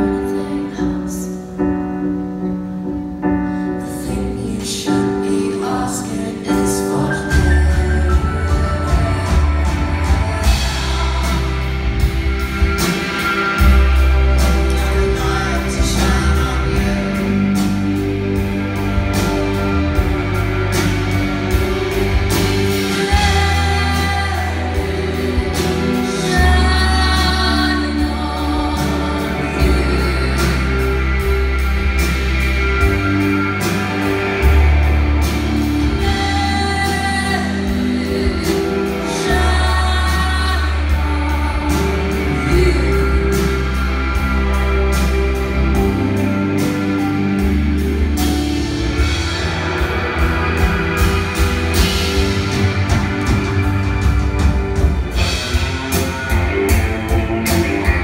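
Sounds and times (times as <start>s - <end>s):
bass guitar: 0.0s - 58.0s
electric guitar: 0.0s - 58.0s
person singing lead vocal: 0.0s - 58.0s.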